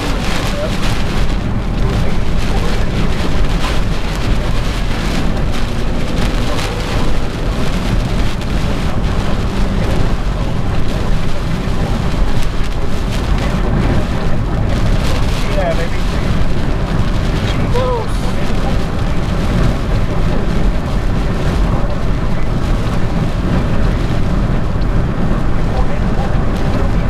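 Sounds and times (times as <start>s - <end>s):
heavy rain on a car: 0.0s - 27.0s
road and engine rumble: 0.0s - 27.0s.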